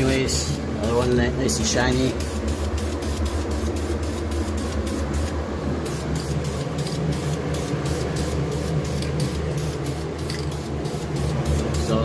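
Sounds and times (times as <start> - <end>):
spray paint can hissing: 1.9 - 12.0.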